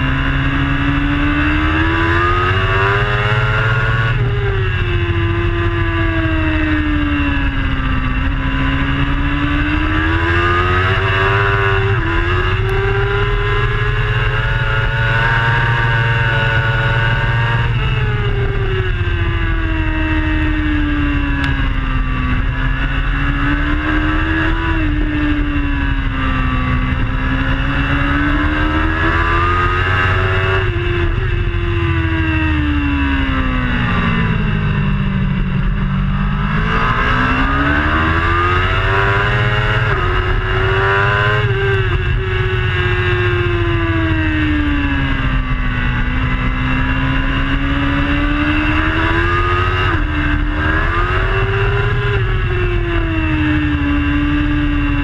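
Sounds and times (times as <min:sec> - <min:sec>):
superbike engine at racing speed: 0:00.0 - 0:55.0
wind rumble on microphone: 0:00.0 - 0:55.0.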